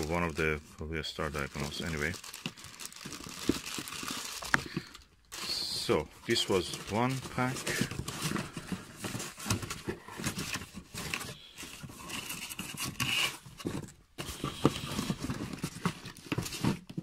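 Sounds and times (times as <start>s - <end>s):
cardboard scraping and rustling: 1.2s - 17.0s.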